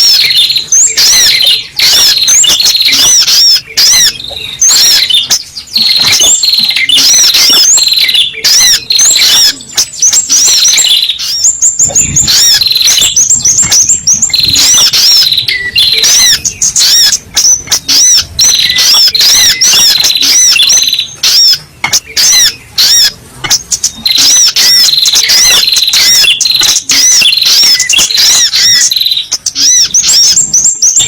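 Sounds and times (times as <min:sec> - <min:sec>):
bird sharp arching chirps: 0:00.0 - 0:31.0.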